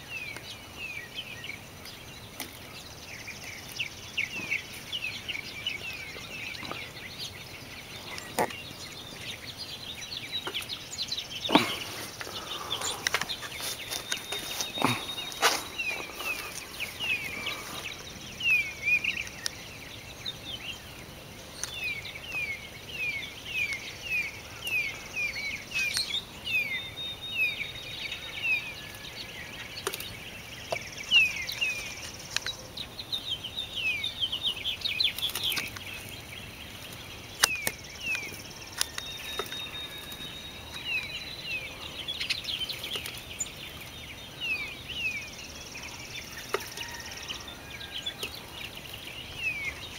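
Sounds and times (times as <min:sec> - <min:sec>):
small songbirds chirping: 0:00.0 - 0:49.9.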